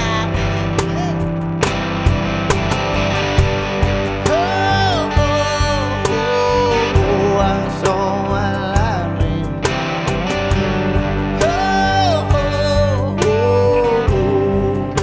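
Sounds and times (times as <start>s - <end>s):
bass guitar: 0.0s - 15.0s
drums keeping a steady beat: 0.0s - 15.0s
sliding guitar lead: 0.0s - 15.0s.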